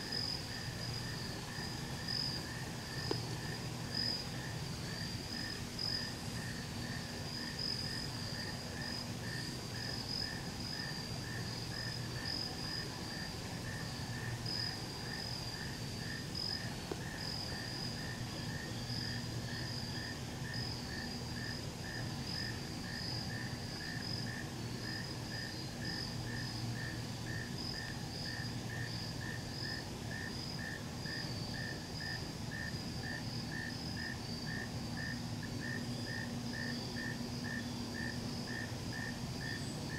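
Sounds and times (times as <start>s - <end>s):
lower insect chirp: 0.0s - 39.9s.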